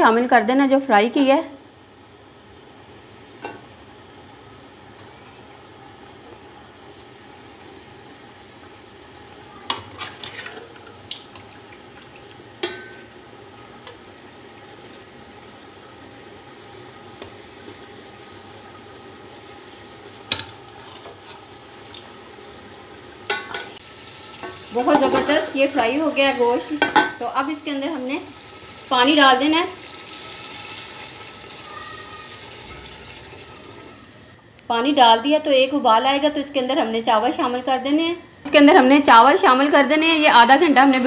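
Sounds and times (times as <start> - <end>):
food sizzling in oil: 0.0 - 41.0.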